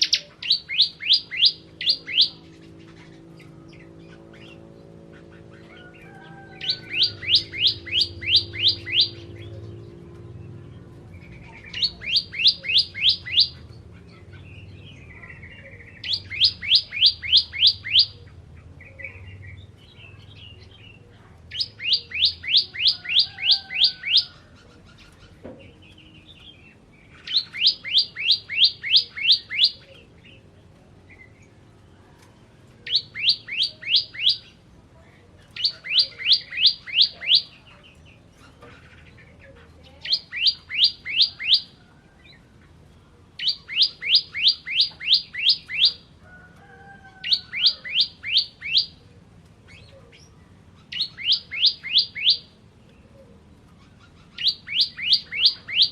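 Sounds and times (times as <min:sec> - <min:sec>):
bird singing high chirps: 0:00.0 - 0:30.4, 0:32.8 - 0:34.6, 0:35.5 - 0:41.8, 0:43.4 - 0:46.1, 0:47.2 - 0:52.6, 0:53.6 - 0:55.9.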